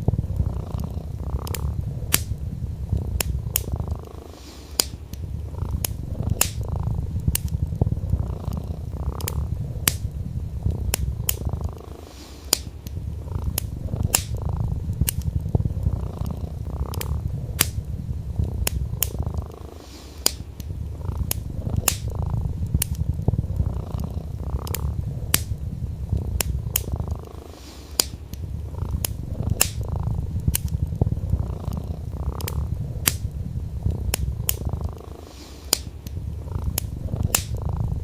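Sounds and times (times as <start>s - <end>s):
cat purring: 0.0s - 38.0s
fireplace wood crackling: 0.0s - 38.0s.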